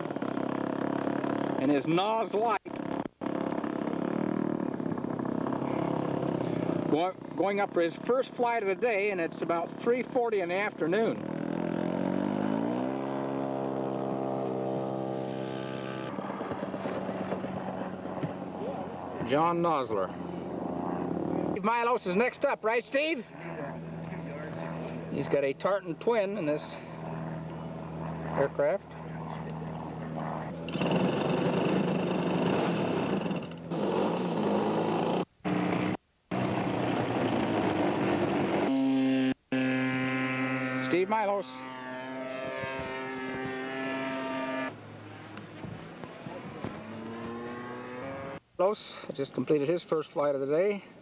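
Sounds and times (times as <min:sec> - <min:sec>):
model airplane engine: 0:00.0 - 0:48.4.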